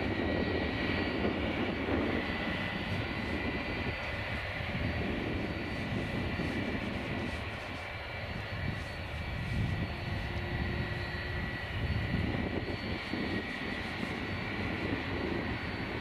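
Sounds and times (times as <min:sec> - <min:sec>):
jet engines idling: 0:00.0 - 0:16.0.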